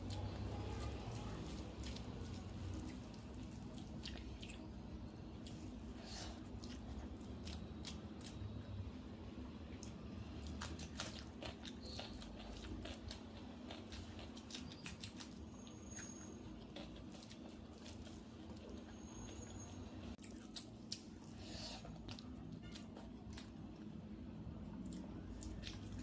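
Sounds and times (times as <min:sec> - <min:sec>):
person chewing and crunching: 0:00.0 - 0:08.4, 0:09.8 - 0:19.5, 0:20.2 - 0:23.9, 0:24.7 - 0:26.0.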